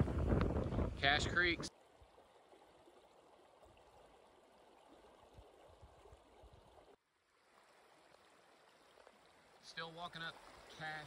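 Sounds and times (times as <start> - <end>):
shallow creek running over rocks: 0.0 - 11.0.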